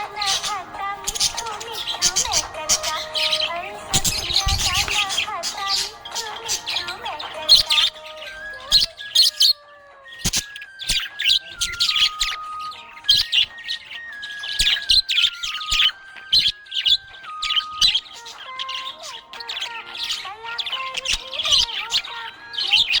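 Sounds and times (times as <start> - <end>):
budgerigar chirping: 0.0 - 23.0.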